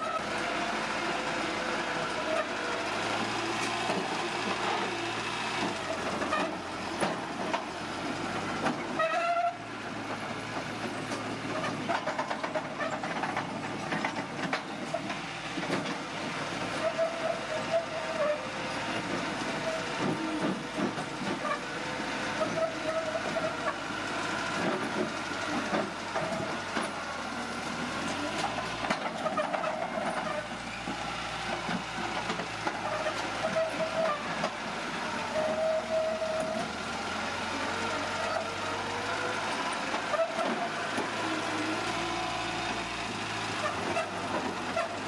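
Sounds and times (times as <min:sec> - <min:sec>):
diesel engine running: 0:00.0 - 0:45.0
steel crawler tracks clanking: 0:00.0 - 0:45.0
track squeals: 0:01.4 - 0:07.6, 0:08.2 - 0:09.8, 0:11.1 - 0:45.0.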